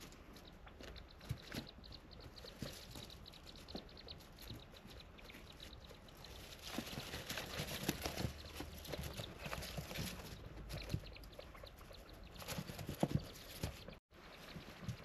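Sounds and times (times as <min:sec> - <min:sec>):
rodent chirping: 0:00.0 - 0:15.0.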